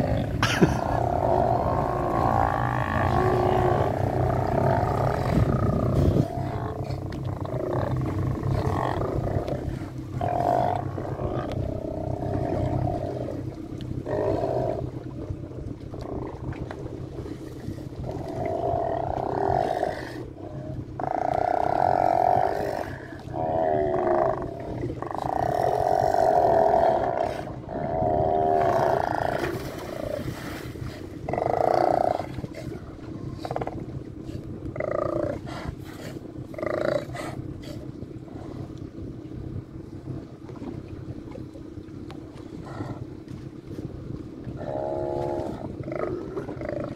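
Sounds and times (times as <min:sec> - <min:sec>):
sea lions roaring: 0:00.0 - 0:15.2, 0:15.9 - 0:38.8, 0:44.5 - 0:46.9
steady low hum: 0:00.0 - 0:46.9.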